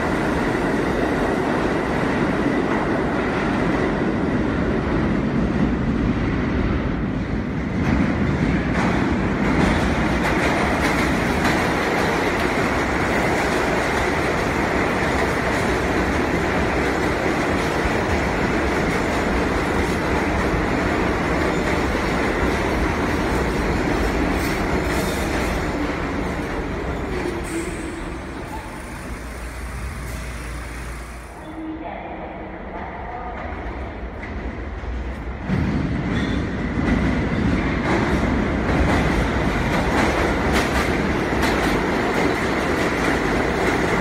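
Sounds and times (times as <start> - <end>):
subway train rumbling on rails: 0.0 - 44.0.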